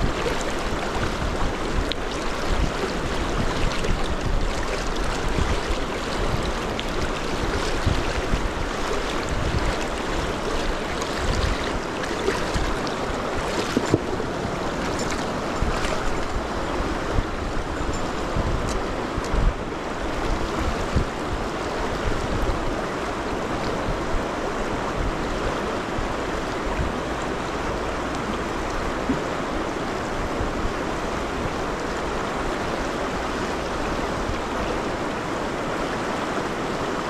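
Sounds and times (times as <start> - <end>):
river water rushing: 0.0 - 37.0
wind gusts on microphone: 0.0 - 37.0.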